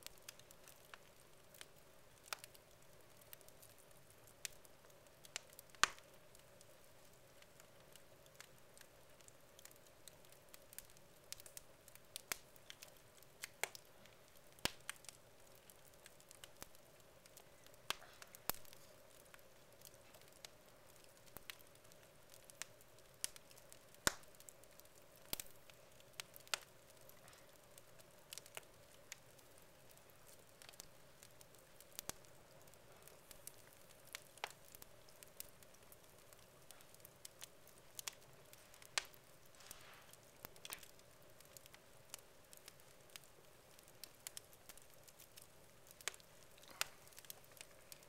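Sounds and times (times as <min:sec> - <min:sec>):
faint steady hum: 0:00.0 - 0:48.0
wood fire crackling: 0:00.0 - 0:48.0
sharp pops of fire: 0:03.3 - 0:06.4, 0:10.5 - 0:27.5, 0:28.3 - 0:48.0.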